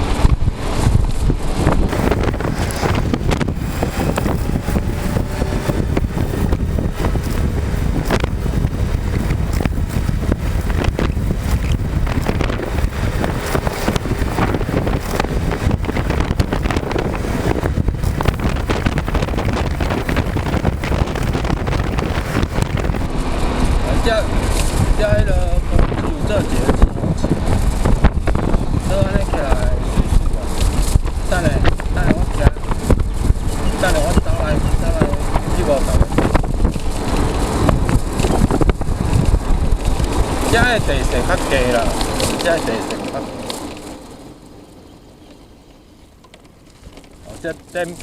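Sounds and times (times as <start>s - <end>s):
road noise: 0.0s - 48.0s
wind buffeting the microphone: 0.0s - 48.0s.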